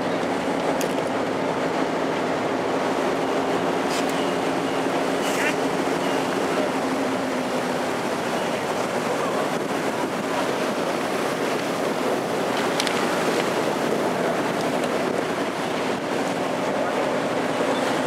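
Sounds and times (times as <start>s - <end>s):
boat engine drone: 0.0s - 18.0s
rush of churning wake: 0.0s - 18.0s.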